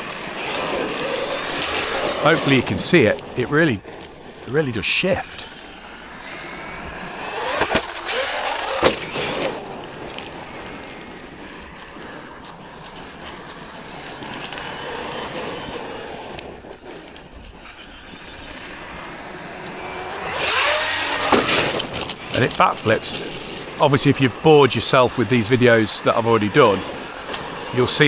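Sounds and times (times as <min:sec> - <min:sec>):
electric motor whining: 0:00.0 - 0:28.0
tyres on the ground: 0:00.0 - 0:28.0.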